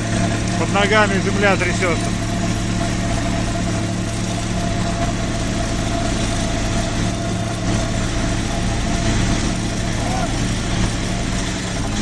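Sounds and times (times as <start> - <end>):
diesel power unit running: 0.0 - 12.0
vibratory pile hammer humming: 0.0 - 12.0.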